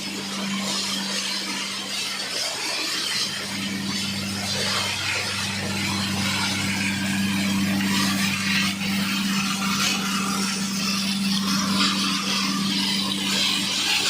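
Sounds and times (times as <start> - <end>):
motor hum: 0.0 - 14.0.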